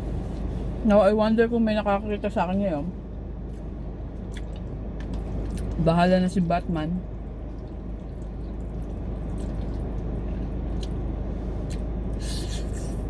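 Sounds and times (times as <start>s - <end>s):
low car cabin hum: 0.0s - 13.0s.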